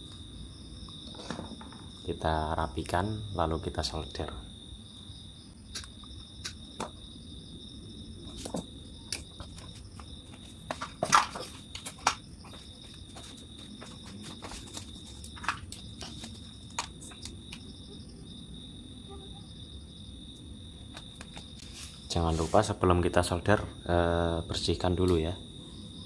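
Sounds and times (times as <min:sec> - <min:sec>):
insect chirring: 0:00.0 - 0:26.0.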